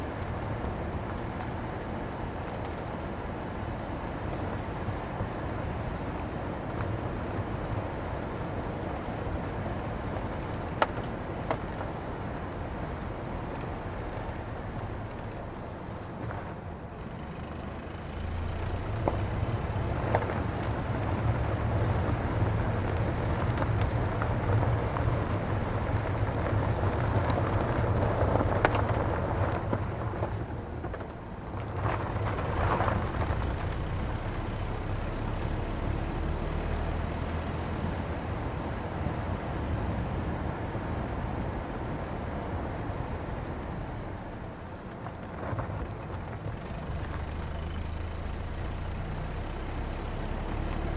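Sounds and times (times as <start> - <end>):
car tyres rolling on rough road: 0.0 - 50.9.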